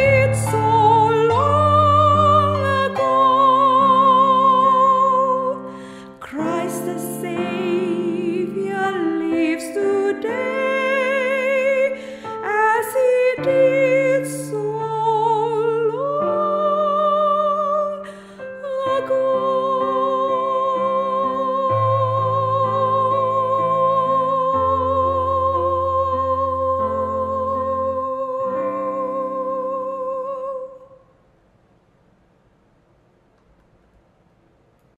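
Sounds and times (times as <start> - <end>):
piano accompaniment: 0.0 - 30.5
woman singing hymn: 0.0 - 31.0.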